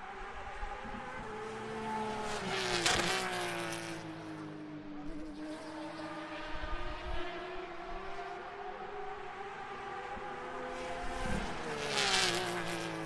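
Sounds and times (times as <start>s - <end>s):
race car passing at speed: 0.0s - 13.0s.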